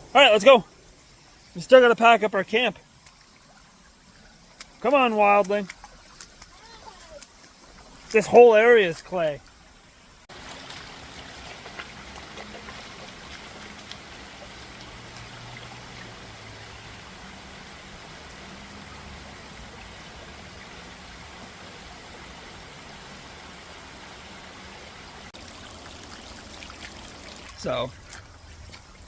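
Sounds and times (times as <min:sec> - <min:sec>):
forest stream flowing: 0:00.0 - 0:29.0.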